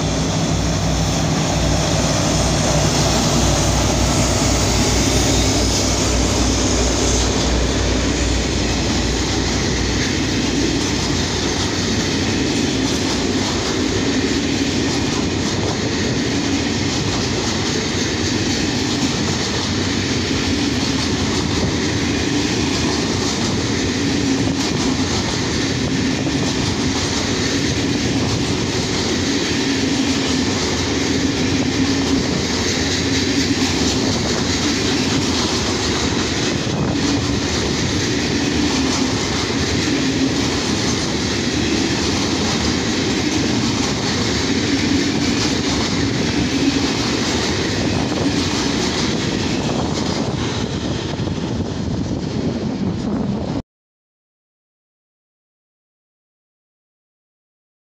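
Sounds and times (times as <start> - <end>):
freight train wheels on rails: 0.0 - 53.6.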